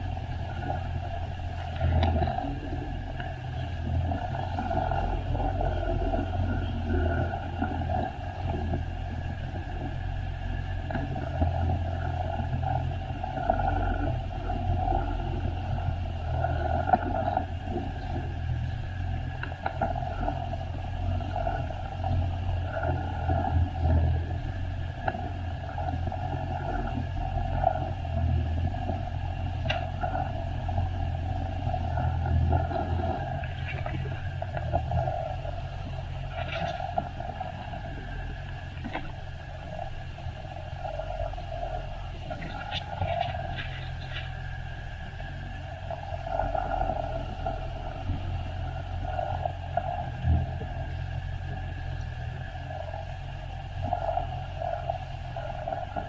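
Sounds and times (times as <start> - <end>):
jet ski engine droning: 0.0 - 56.0
wind on microphone: 0.0 - 56.0.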